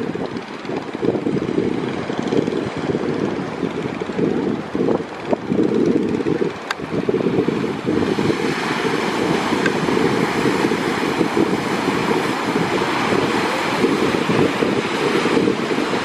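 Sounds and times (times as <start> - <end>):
sea wash: 0.0 - 16.0
wind buffeting microphone: 0.0 - 16.0.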